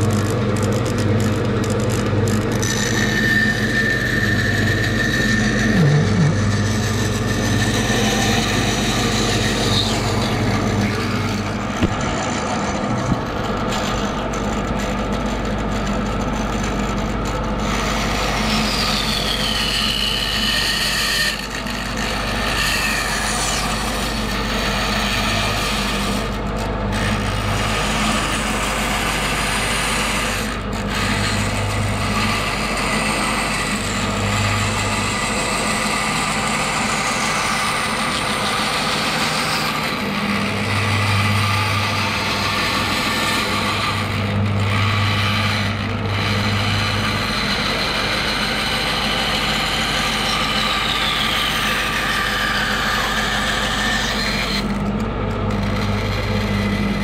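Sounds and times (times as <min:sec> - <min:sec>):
bandsaw cutting wood: 0:00.0 - 0:57.0.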